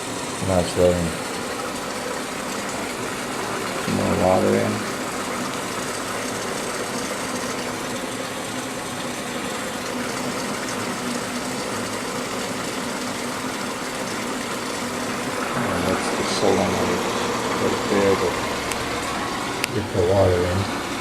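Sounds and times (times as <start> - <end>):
water rushing through washer valve: 0.0 - 21.0.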